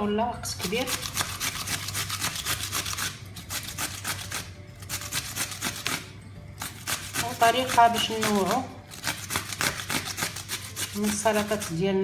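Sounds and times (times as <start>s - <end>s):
cucumber rasping on grater: 0.6s - 12.0s.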